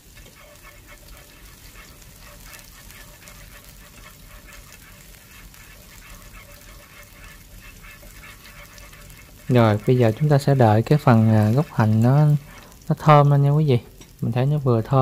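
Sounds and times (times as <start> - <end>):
onions frying in hot oil: 0.0 - 15.0.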